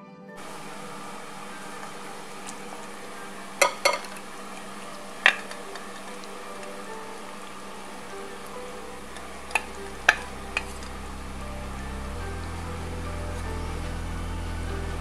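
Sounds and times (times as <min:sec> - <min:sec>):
steady hiss: 0:00.4 - 0:15.0.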